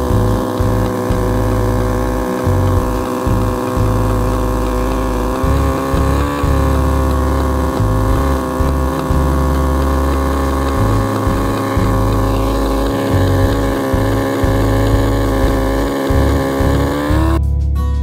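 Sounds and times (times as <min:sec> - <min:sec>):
motorcycle engine idling: 0:00.0 - 0:17.4.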